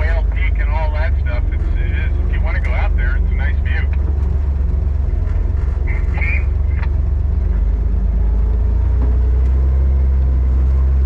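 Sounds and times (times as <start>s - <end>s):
engine low drone: 0.0s - 11.0s.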